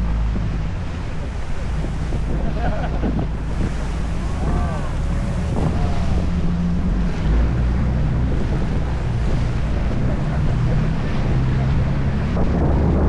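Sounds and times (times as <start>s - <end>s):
boat engine rumbling: 0.0s - 13.0s
water washing around hull: 0.0s - 13.0s
wind buffeting microphone: 0.0s - 13.0s.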